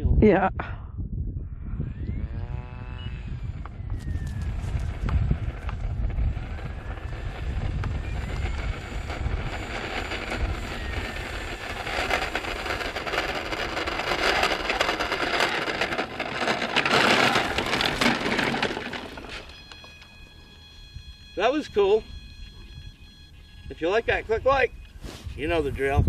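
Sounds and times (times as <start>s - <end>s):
wind buffeting microphone: 0.0s - 26.0s
electric motor and propeller whine: 1.8s - 26.0s.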